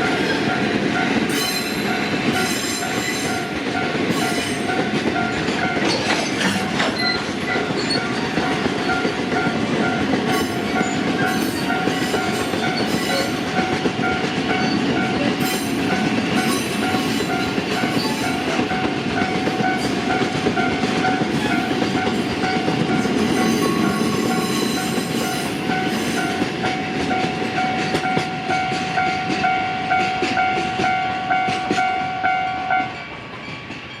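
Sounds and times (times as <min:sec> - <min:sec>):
level-crossing alarm bell: 0:00.0 - 0:33.2
train wheels clacking: 0:00.0 - 0:34.0.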